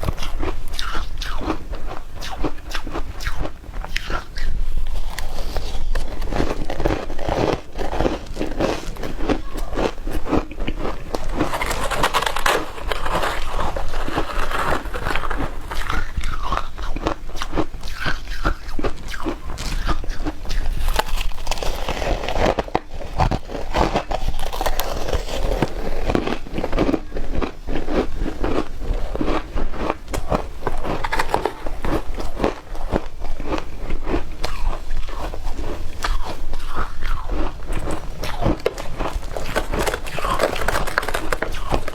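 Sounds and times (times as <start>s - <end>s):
person crunching shaved ice: 0.0s - 41.9s.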